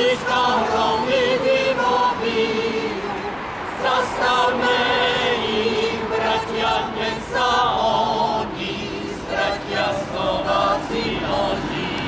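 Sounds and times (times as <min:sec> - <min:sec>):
mixed choir singing: 0:00.0 - 0:12.0.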